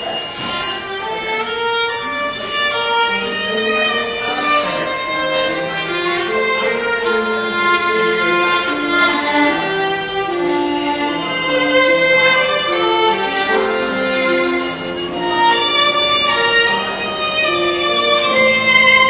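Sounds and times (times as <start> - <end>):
violin melody: 0.0 - 19.0.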